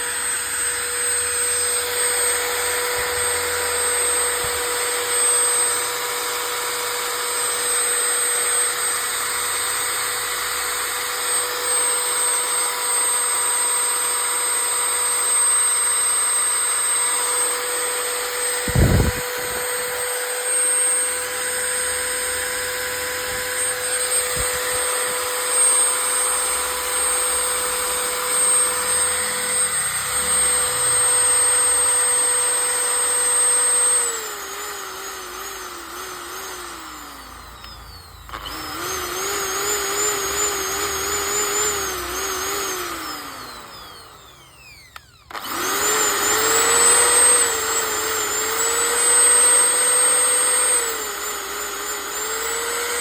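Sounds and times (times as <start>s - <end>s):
electric drill motor whining: 0.0s - 53.0s.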